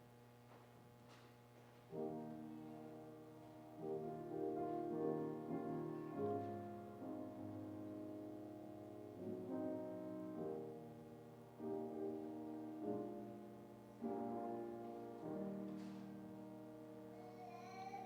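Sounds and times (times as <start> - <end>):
slow keyboard chords: 1.9 - 18.0.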